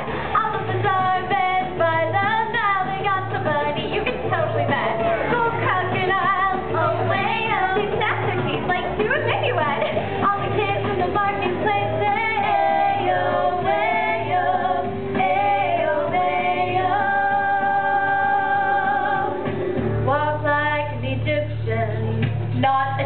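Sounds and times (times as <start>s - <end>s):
woman singing: 0.0s - 23.0s.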